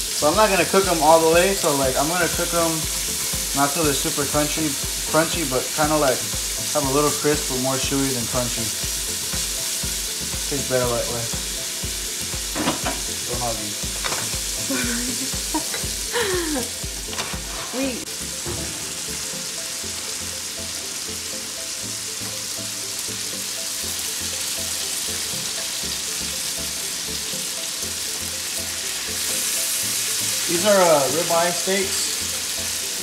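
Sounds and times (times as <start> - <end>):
bacon sizzling: 0.0 - 33.0
steaks laid into grill pan: 0.1 - 26.7, 27.3 - 33.0.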